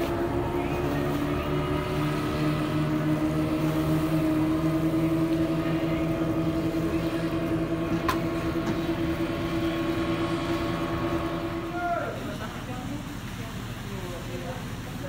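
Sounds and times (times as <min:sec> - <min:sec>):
rushing water and wind: 0:00.0 - 0:15.0
speedboat engine running: 0:00.0 - 0:15.0.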